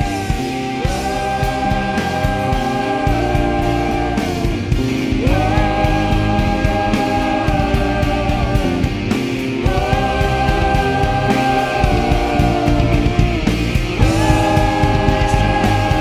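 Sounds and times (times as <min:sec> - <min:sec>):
band playing rock song: 0:00.0 - 0:16.0.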